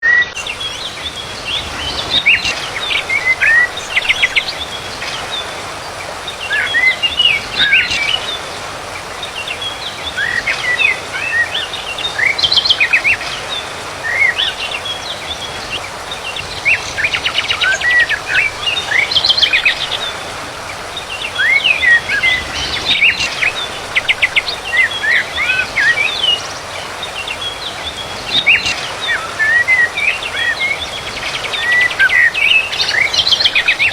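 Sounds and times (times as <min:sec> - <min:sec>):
songbird singing: 0:00.0 - 0:33.9
steady background hiss: 0:00.3 - 0:33.9.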